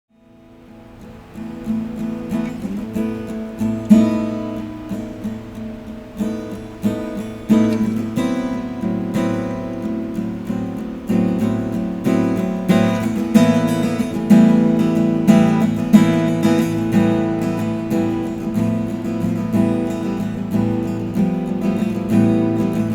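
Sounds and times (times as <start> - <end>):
acoustic guitar strumming chords: 0.1 - 22.9.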